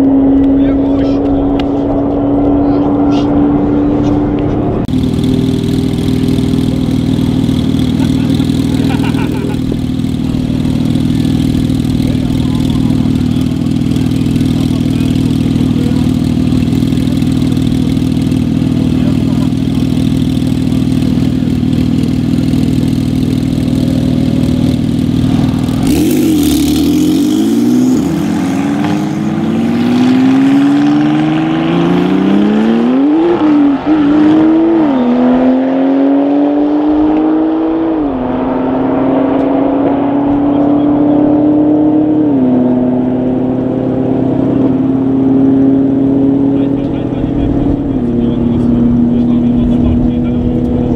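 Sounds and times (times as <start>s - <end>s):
car engine running and accelerating: 0.0s - 50.9s.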